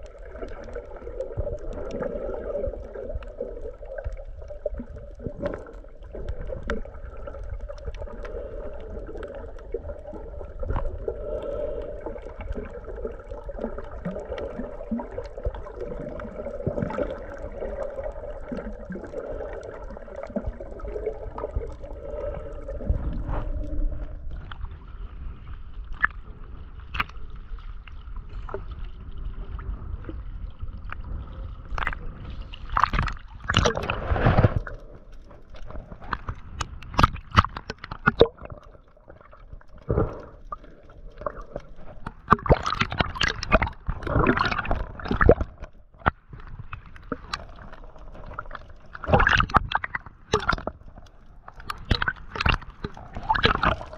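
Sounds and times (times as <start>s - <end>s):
splashing and bubbling: 0.0s - 53.9s
water gurgling and sloshing: 0.0s - 53.9s.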